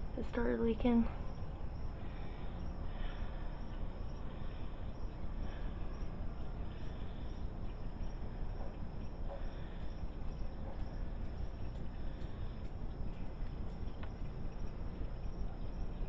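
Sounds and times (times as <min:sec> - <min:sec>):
water rushing through pond filter: 0:01.8 - 0:16.0.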